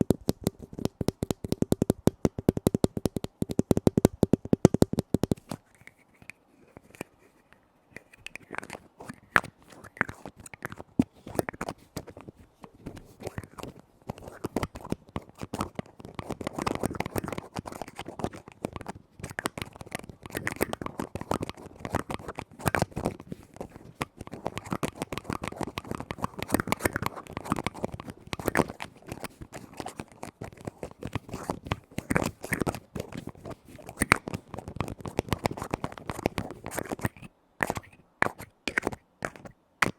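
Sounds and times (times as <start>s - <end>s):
fingers tapping and scratching lids: 0.0s - 7.1s, 8.0s - 39.9s.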